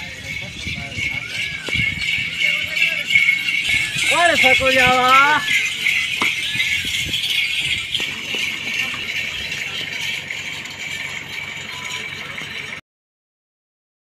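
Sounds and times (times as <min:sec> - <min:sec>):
small bells jingling: 0:00.0 - 0:12.8.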